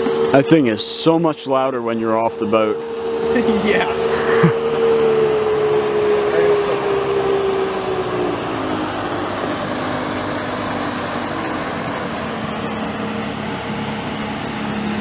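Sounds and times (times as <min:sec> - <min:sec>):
motorboat engine droning: 0:00.0 - 0:15.0.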